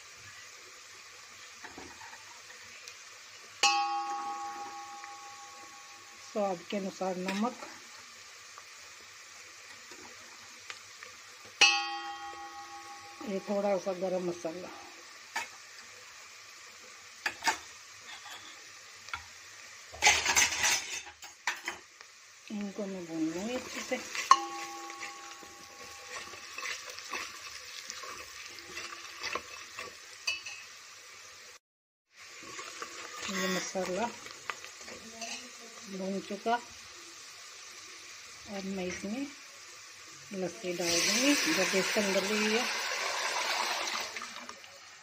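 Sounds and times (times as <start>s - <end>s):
onions sizzling in oil: 0.0s - 45.0s.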